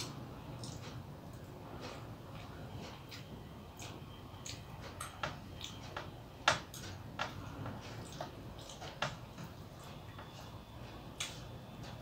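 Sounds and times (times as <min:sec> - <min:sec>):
fingers mixing food on metal plate: 0:00.0 - 0:12.0.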